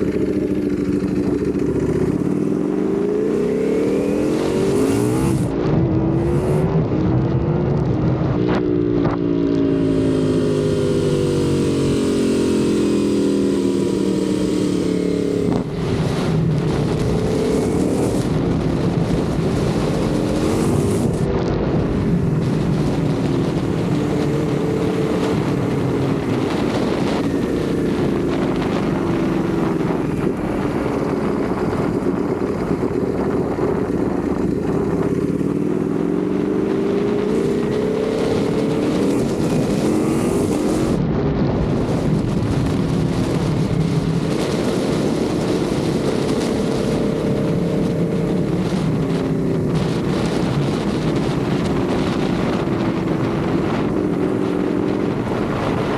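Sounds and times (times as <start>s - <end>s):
motorcycle engine revving: 0.0s - 55.9s
wind on microphone: 0.0s - 55.9s.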